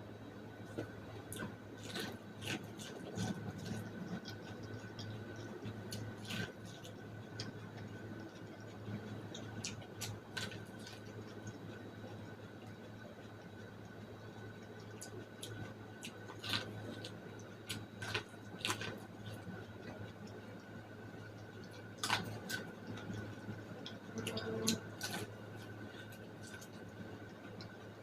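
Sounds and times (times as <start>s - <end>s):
steady low hum: 0.0s - 28.0s
chewing corn kernels: 1.3s - 12.1s, 14.4s - 20.7s, 21.3s - 27.8s.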